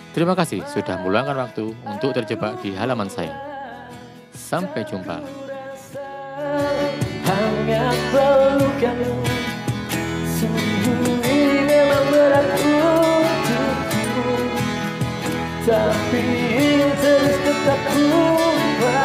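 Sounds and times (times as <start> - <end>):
instrumental backing: 0.0 - 19.0
man singing a slow ballad: 0.2 - 19.0.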